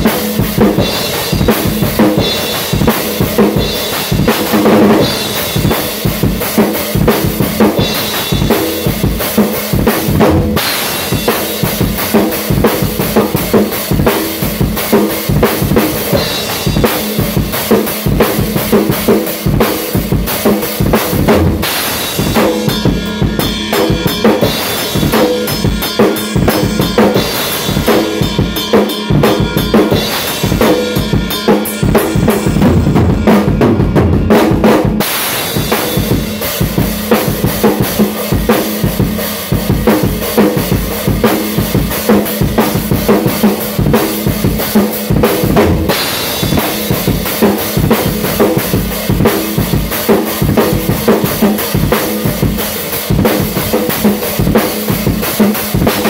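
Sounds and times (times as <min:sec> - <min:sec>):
crashing cymbals: 0:00.0 - 0:19.1, 0:19.9 - 0:32.6, 0:35.0 - 0:56.0
bass drum and snare hits: 0:00.0 - 0:56.0.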